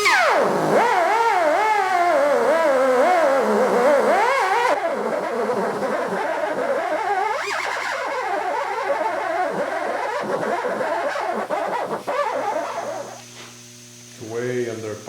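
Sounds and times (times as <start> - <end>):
small power tool polishing metal: 0.0 - 13.6.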